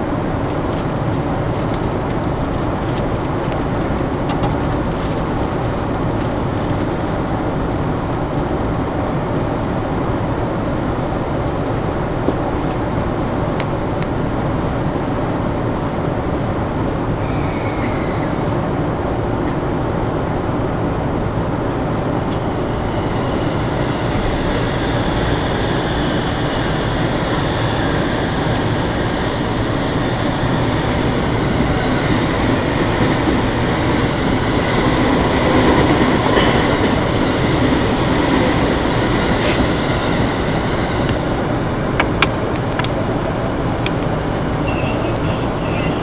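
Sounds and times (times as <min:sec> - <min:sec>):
trains rumbling past: 0:00.0 - 0:46.0.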